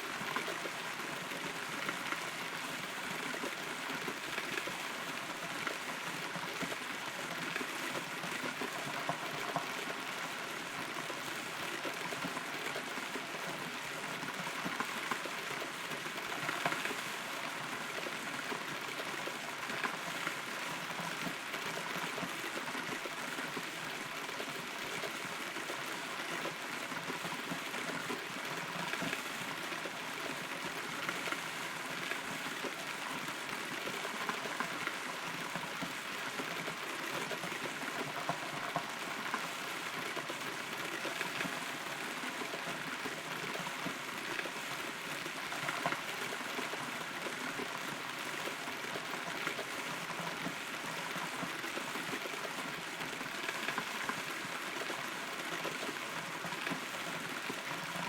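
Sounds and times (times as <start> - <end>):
rain on hollow tree: 0.0 - 58.0.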